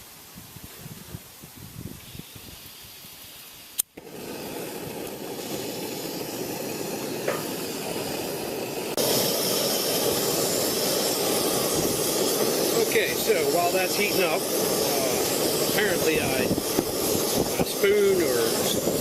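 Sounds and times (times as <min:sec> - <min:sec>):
gas burner hissing: 0:00.0 - 0:19.0.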